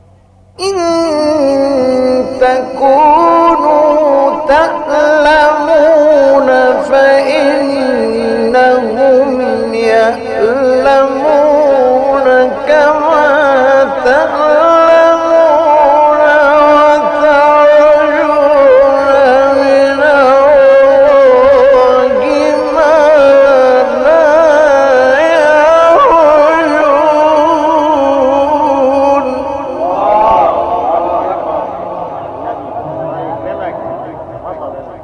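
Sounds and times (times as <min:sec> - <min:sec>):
man reciting melodically: 0:00.6 - 0:35.0.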